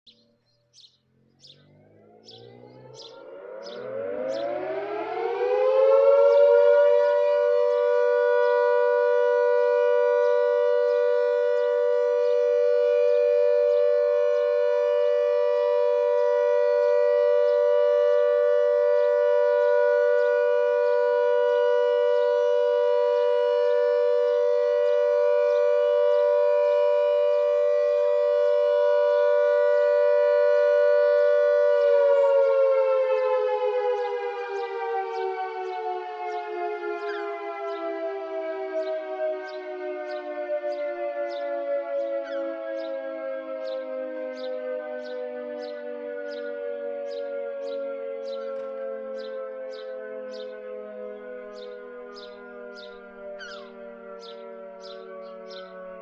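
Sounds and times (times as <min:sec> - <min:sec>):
air raid siren: 0:00.1 - 0:56.0.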